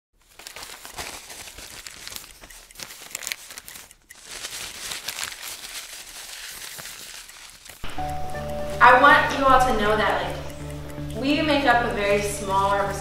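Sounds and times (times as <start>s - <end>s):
crackling static: 0.3s - 13.0s.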